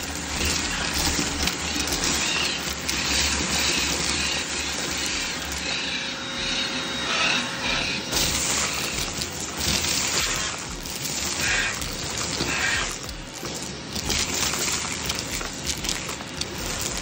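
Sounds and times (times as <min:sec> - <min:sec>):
vacuum cleaner sucking up debris: 0:00.0 - 0:17.0.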